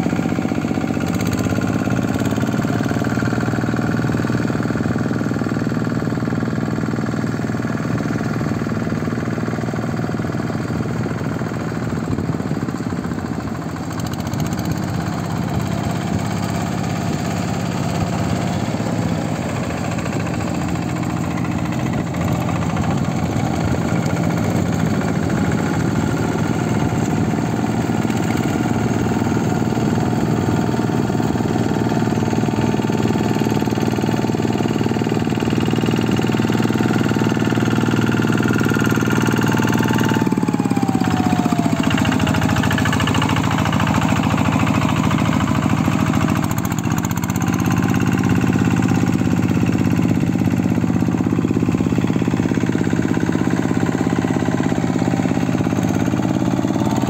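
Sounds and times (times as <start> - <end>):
hand tractor engine running: 0.0 - 57.0.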